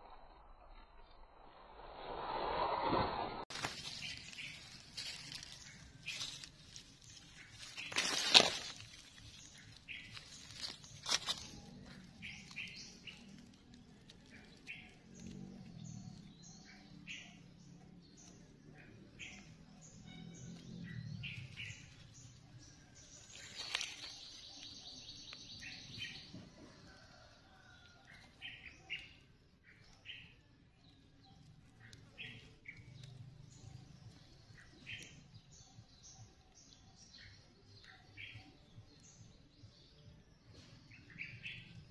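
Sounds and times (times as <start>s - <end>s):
small birds chirping: 3.5s - 41.9s.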